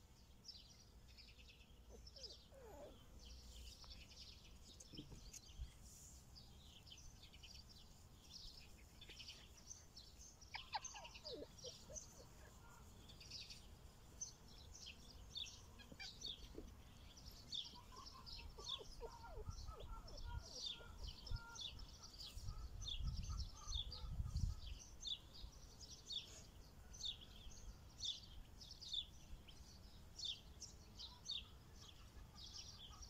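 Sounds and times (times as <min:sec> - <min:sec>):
faint birdsong: 0:00.0 - 0:33.0.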